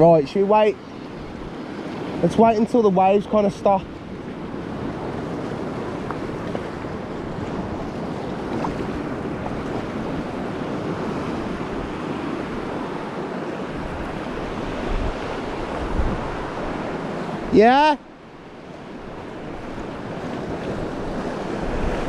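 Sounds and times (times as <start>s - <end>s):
sea waves washing: 0.0s - 22.0s
wind on microphone: 3.4s - 17.6s, 18.2s - 22.0s.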